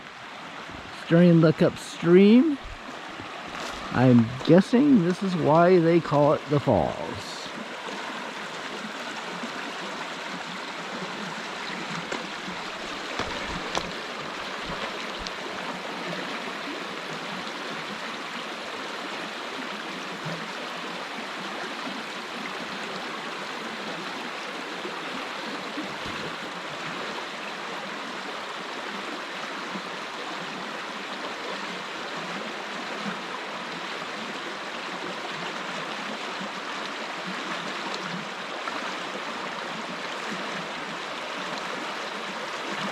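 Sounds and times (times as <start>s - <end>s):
water rushing over falls: 0.0s - 42.9s.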